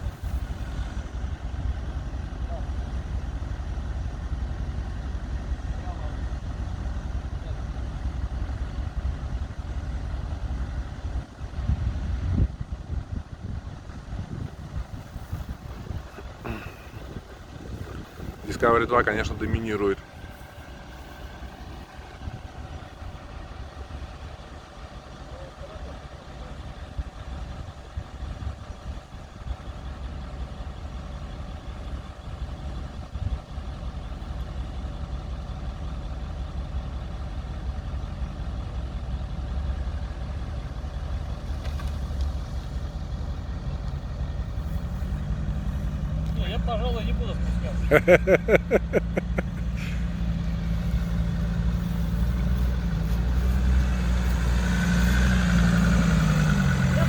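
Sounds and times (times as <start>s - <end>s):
suv engine rumbling: 0.0s - 57.0s.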